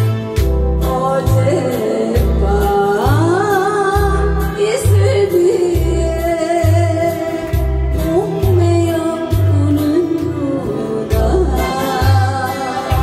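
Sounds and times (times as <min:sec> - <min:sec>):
acoustic guitar: 0:00.0 - 0:13.0
woman singing into microphone: 0:00.6 - 0:13.0.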